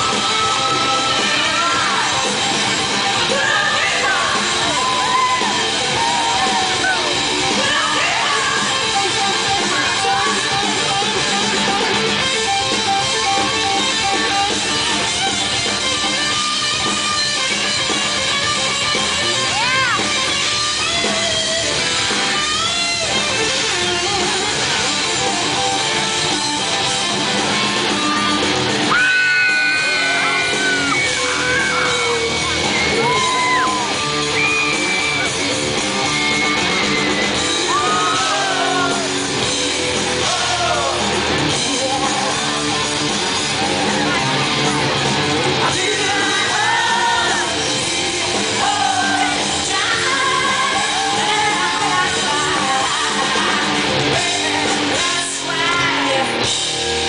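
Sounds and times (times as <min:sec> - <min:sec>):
drums: 0:00.0 - 0:57.0
electric guitar: 0:00.0 - 0:57.0.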